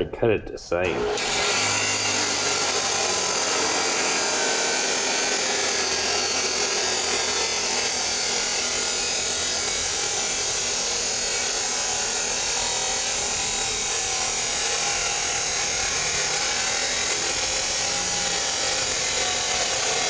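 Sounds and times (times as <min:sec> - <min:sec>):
power tool cutting pipe: 0:00.8 - 0:20.0.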